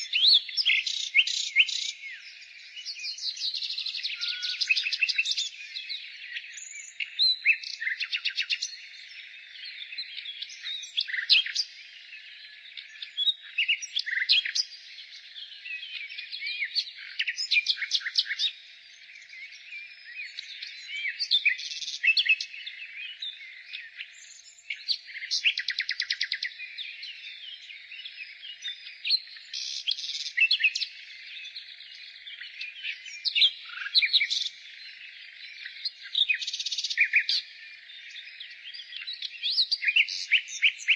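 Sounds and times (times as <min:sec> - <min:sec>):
faint bird twittering: 0:00.0 - 0:40.9
nightingale singing: 0:00.0 - 0:40.9.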